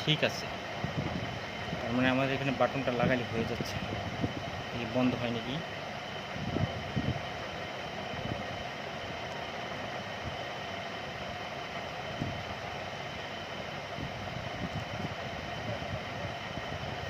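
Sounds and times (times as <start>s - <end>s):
background hiss and hum: 0.0s - 17.0s.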